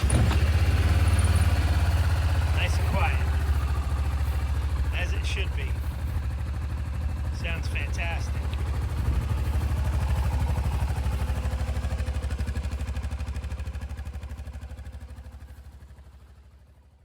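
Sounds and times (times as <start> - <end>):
single-cylinder engine idling: 0.0 - 17.0.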